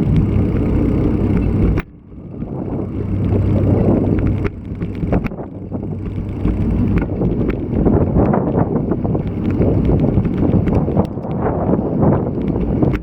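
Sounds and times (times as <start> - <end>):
sharp clicks and knocks: 0.0 - 11.4, 12.0 - 13.0
wind buffeting microphone: 0.0 - 13.0.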